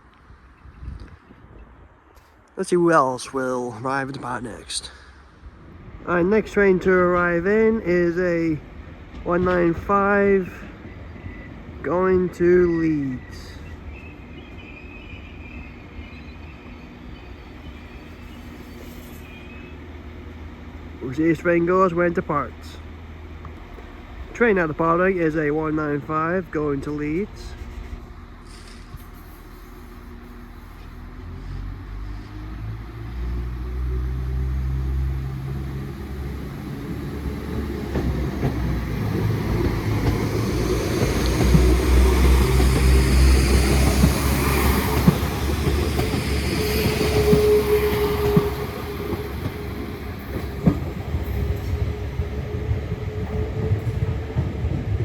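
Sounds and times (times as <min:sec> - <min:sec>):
train engine rumble: 0:00.0 - 0:55.0.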